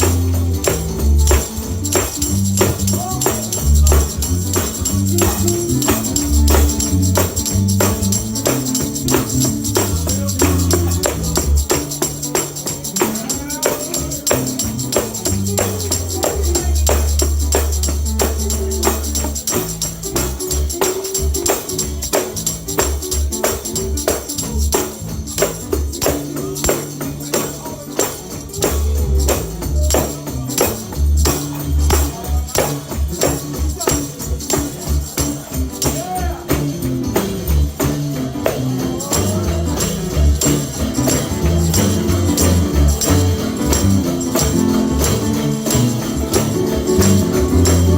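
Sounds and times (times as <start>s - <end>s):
bass notes: 0.0s - 13.0s, 14.0s - 27.4s, 28.3s - 47.9s
fast tambourine beat: 0.0s - 47.9s
gospel music: 0.0s - 47.9s.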